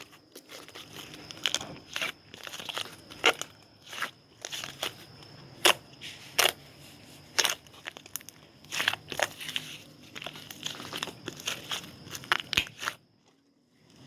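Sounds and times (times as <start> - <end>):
crunchy snack chewing: 0.0 - 14.0.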